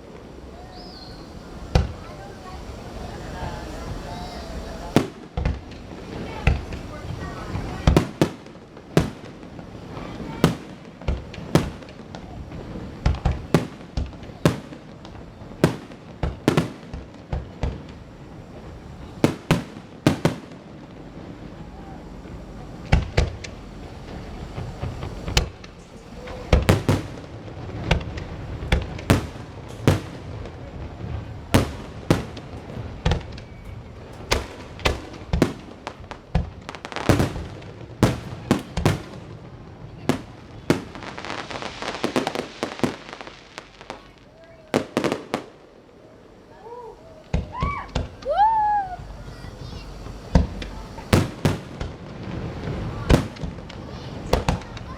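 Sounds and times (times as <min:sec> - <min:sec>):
fireworks bangs: 0:00.0 - 0:54.9
steady noisy background: 0:00.0 - 0:54.9.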